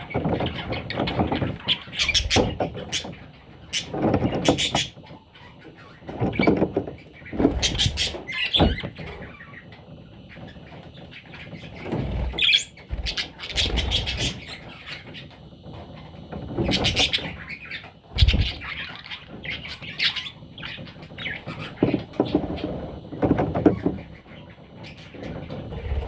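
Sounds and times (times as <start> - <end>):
budgerigar chicks chirping: 0.0 - 26.0.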